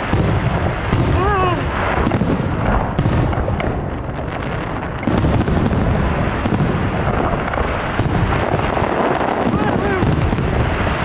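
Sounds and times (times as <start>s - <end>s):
continuous rumble: 0.0s - 11.0s
fireworks booming and cracking: 0.0s - 11.0s.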